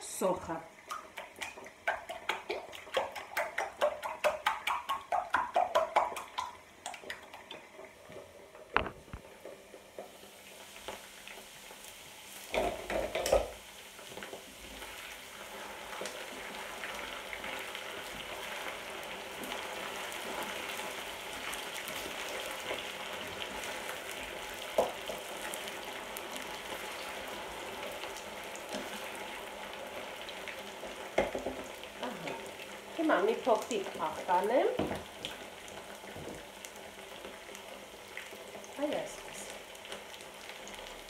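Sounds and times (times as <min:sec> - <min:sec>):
potatoes sizzling in oil: 0:00.0 - 0:41.0.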